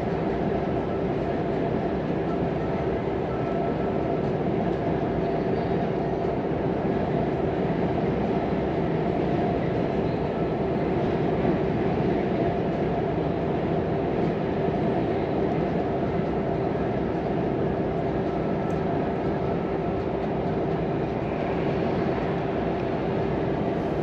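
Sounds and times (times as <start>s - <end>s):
constant hum: 0.0s - 24.0s.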